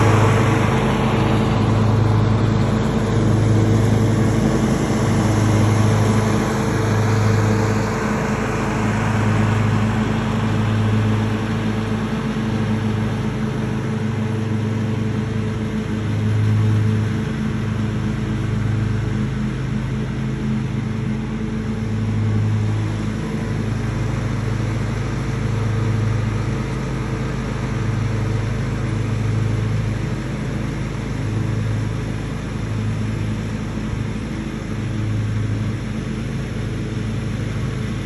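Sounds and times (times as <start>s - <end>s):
riding lawn mower engine running: 0.0s - 38.0s.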